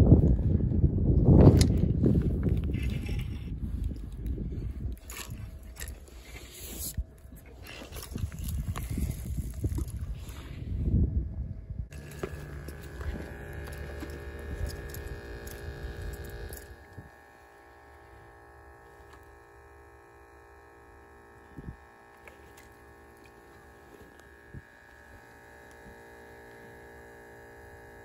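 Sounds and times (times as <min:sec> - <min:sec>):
air pump humming: 0:01.6 - 0:10.8, 0:11.9 - 0:28.0.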